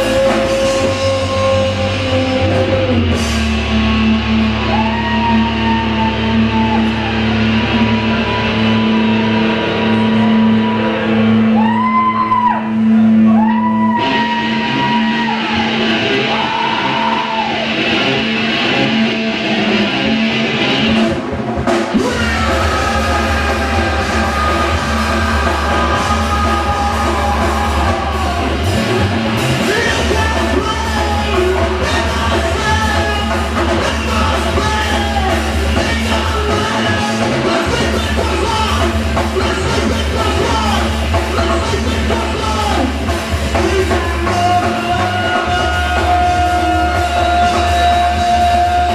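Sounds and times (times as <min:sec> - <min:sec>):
person singing and yelling: 0:00.0 - 0:17.9, 0:21.9 - 0:48.9
bass and drums: 0:00.0 - 0:48.9
electric guitar: 0:00.0 - 0:48.9
live rock band playing: 0:00.0 - 0:48.9.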